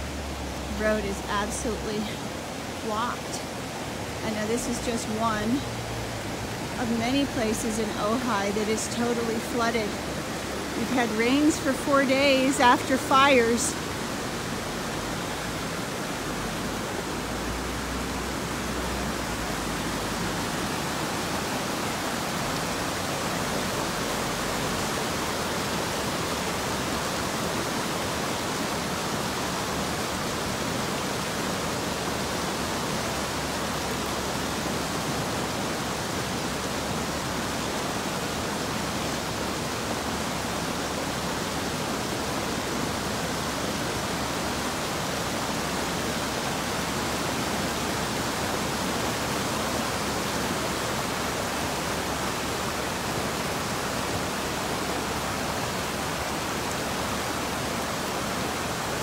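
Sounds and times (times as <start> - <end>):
floodwater rushing over rocks: 0.0 - 59.0.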